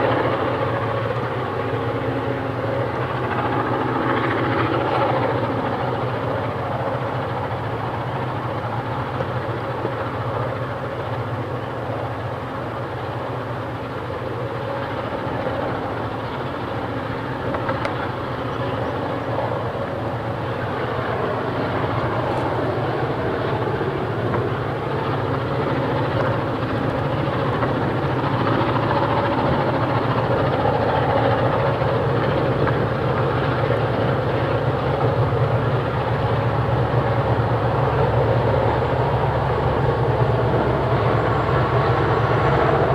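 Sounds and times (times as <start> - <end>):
diesel locomotive engine drone: 0.0 - 42.9.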